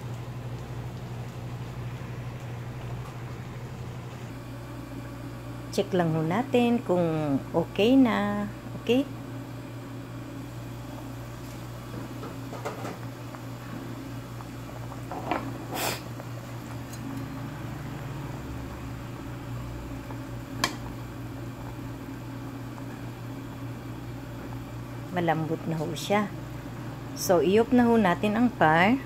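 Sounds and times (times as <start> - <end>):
water boiling in a pot: 0.0 - 29.0.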